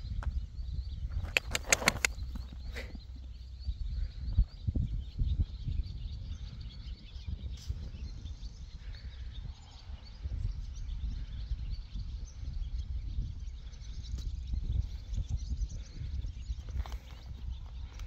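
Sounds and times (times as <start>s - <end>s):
birds chirping: 0.0s - 18.0s
wind rumbling on microphone: 0.0s - 18.0s.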